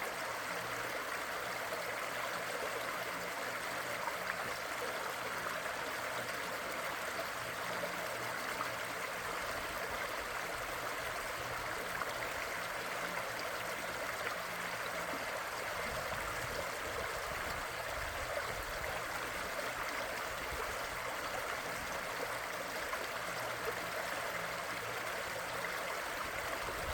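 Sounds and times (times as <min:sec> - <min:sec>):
stream flowing over rocks: 0:00.0 - 0:26.9.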